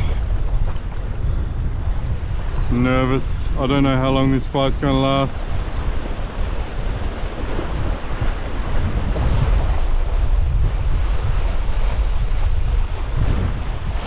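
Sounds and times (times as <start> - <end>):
waves breaking against rocks: 0.0 - 14.0
wind buffeting microphone: 0.0 - 14.0.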